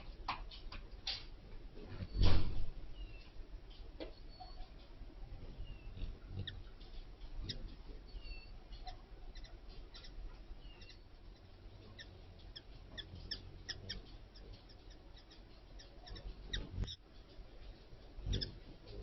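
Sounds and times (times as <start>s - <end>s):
small animals squeaking: 1.8s - 19.0s.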